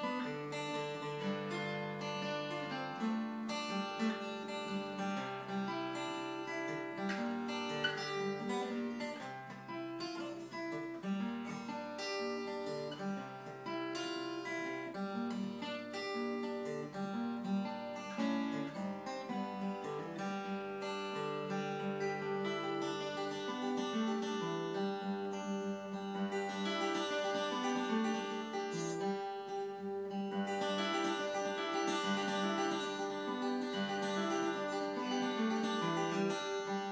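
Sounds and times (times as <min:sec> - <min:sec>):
acoustic guitar plucked notes: 0:00.0 - 0:36.9.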